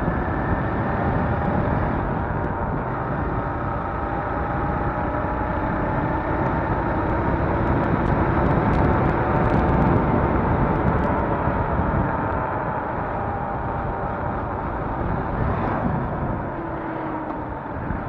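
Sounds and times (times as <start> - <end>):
motorcycle engine running: 0.0 - 18.0
wind rushing over microphone: 0.0 - 18.0.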